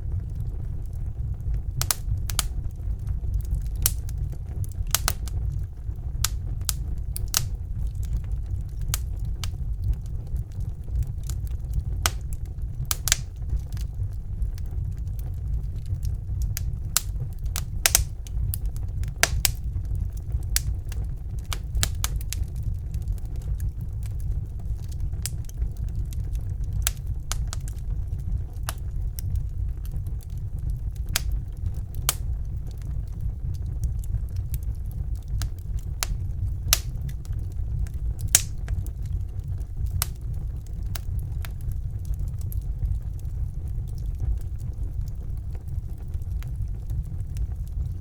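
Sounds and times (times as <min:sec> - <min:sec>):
burning logs crackling and popping: 0:00.0 - 0:48.0
fire rumbling: 0:00.0 - 0:48.0.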